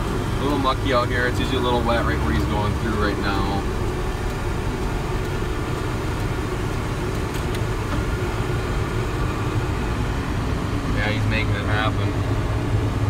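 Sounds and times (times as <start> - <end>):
combine engine and threshing drone: 0.0 - 13.0.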